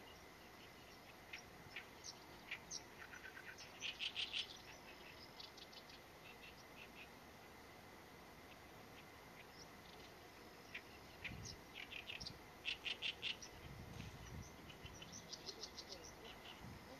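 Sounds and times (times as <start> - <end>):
reed warbler singing: 0.0 - 16.9.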